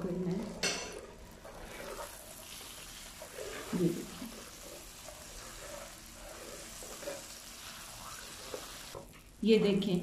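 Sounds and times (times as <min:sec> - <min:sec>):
spatula stirring in a pan: 0:00.3 - 0:09.3
butter sizzling in a frying pan: 0:00.6 - 0:09.3.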